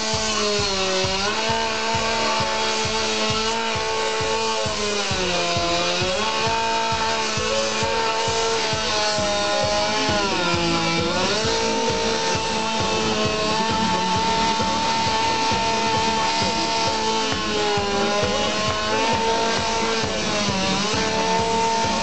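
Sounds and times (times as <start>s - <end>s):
chainsaw cutting ice: 0.0s - 22.0s.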